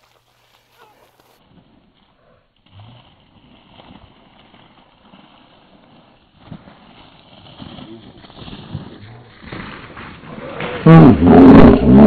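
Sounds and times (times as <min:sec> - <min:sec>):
plastic sled sliding on wet grass: 0:00.0 - 0:12.0.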